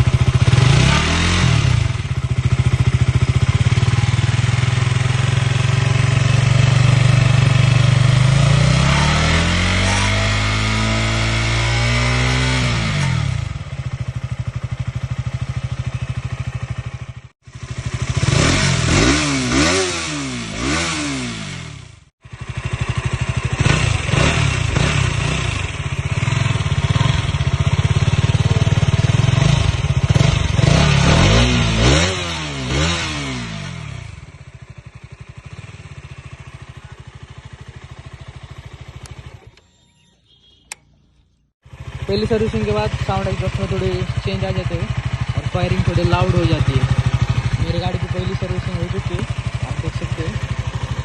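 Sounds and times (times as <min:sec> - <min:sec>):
motorcycle engine revving: 0:00.0 - 0:39.6, 0:40.2 - 0:51.0.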